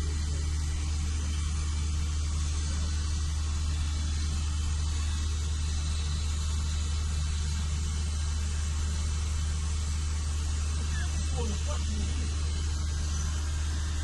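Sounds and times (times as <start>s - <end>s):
boat engine drone: 0.0s - 14.0s
steady hiss: 0.0s - 14.0s.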